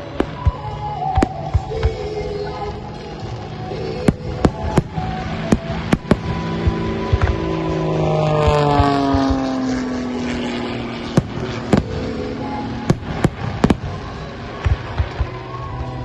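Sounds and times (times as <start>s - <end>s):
fireworks bangs: 0.0s - 9.9s, 11.1s - 16.0s
aircraft engine drone: 0.0s - 16.0s.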